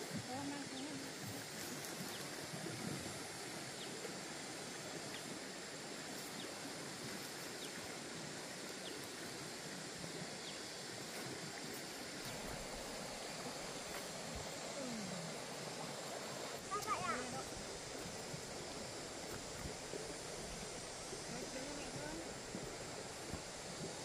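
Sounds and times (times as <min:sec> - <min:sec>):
stream rushing: 0:00.0 - 0:24.0.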